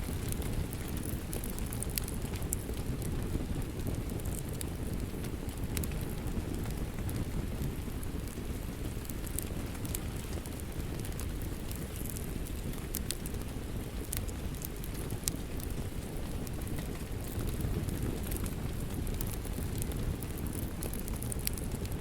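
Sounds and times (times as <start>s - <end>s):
steady rain: 0.0s - 22.0s
wood fire crackling: 0.0s - 22.0s.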